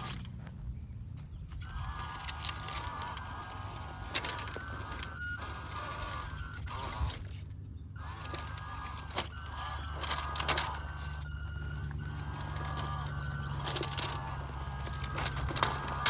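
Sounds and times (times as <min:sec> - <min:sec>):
electric motor whining: 0:00.0 - 0:00.5, 0:01.2 - 0:16.0
toy truck clicks and knocks: 0:01.5 - 0:16.0.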